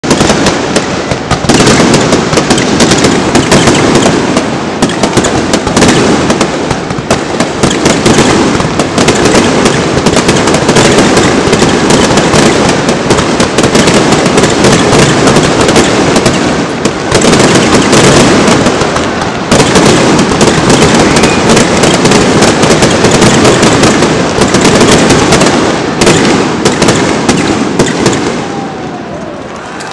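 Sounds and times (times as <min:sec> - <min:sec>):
firework shells bursting: 0:00.0 - 0:28.9.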